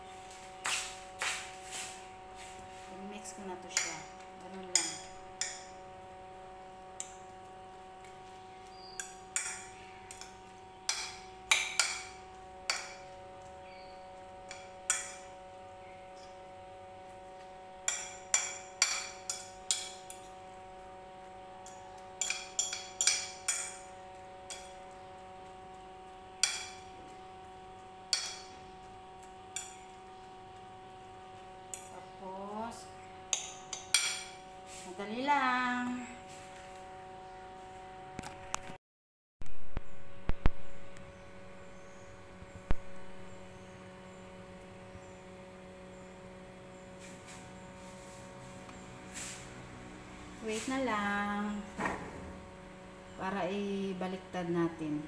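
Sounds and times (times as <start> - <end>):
steady background hum: 0.0 - 38.7, 39.4 - 55.0.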